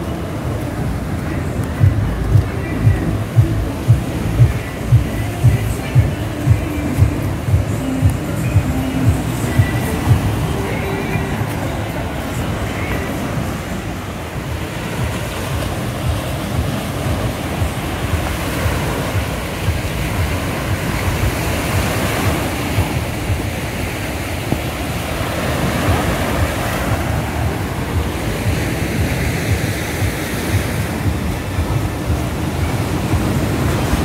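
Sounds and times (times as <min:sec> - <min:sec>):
waves breaking on shore: 0:00.0 - 0:34.0
wind buffeting microphone: 0:00.0 - 0:34.0.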